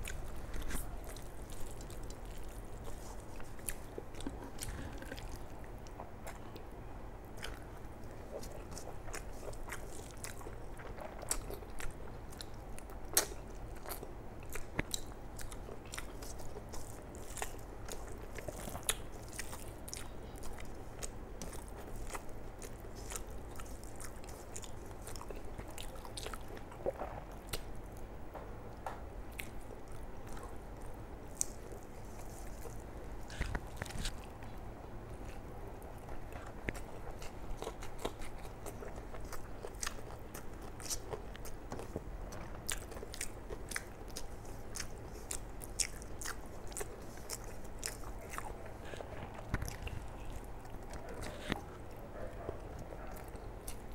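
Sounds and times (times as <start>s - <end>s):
person chewing: 0.0s - 6.6s, 7.3s - 28.0s, 29.3s - 53.9s.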